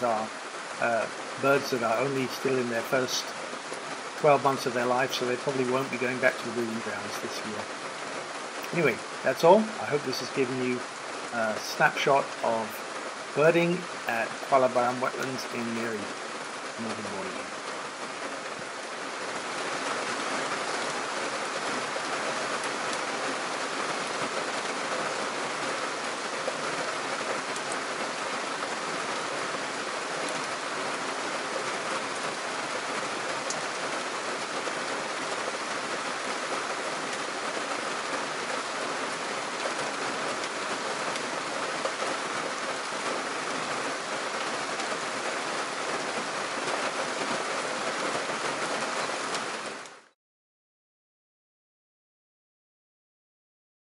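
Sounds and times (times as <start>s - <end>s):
heavy rain on water: 0.0s - 50.2s.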